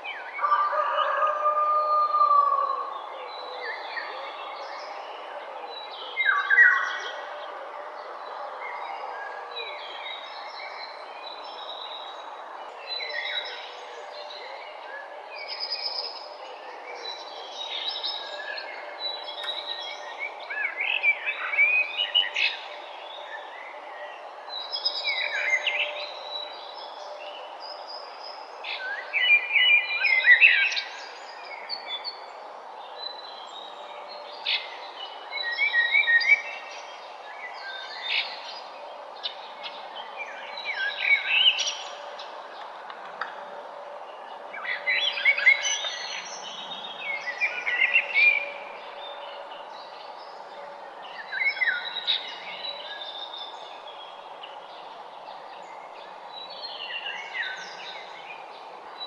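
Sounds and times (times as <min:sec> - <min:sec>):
songbirds chirping and singing: 0:00.0 - 0:59.0
steady background noise: 0:00.0 - 0:59.0.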